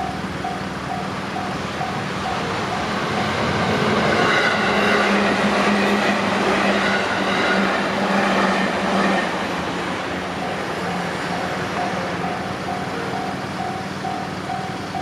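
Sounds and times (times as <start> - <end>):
electric train passing: 0.0 - 15.0
wheels rushing on rail: 0.0 - 15.0.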